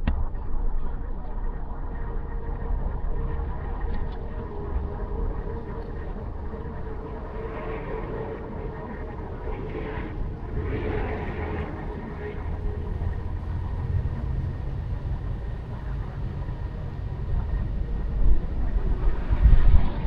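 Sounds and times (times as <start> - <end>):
car road and engine rumble: 2.1 - 19.7.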